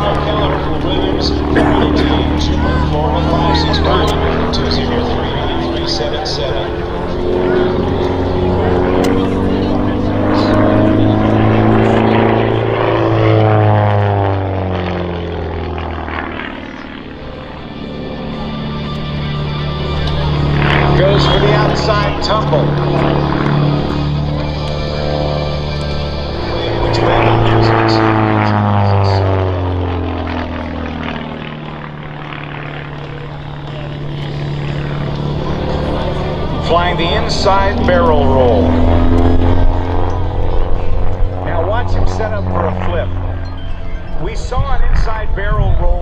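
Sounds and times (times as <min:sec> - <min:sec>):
propeller plane engine flying past: 0:00.0 - 0:46.0.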